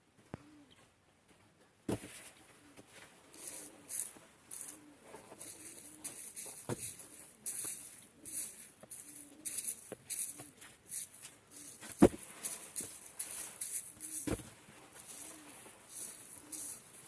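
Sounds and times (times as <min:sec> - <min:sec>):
pigeons cooing: 0:00.4 - 0:00.8, 0:02.4 - 0:17.0
rustling bursts: 0:03.3 - 0:17.0.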